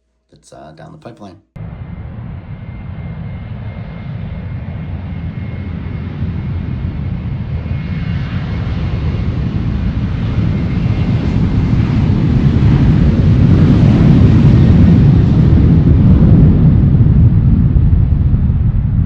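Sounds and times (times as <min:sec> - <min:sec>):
airplane engines rumbling: 0:00.4 - 0:19.0.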